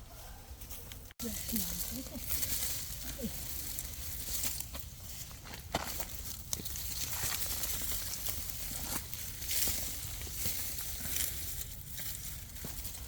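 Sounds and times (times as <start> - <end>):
rustling and scraping: 0.2 - 13.0.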